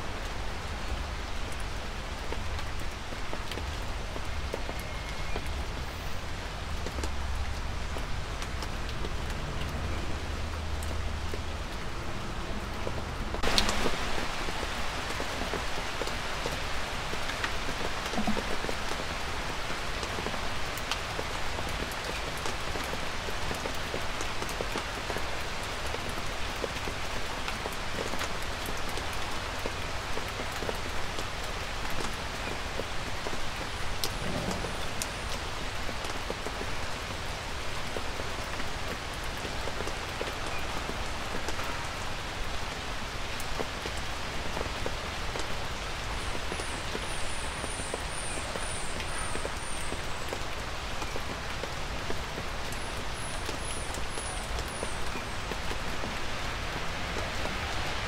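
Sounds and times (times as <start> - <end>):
light rain patter: 0.0 - 58.0.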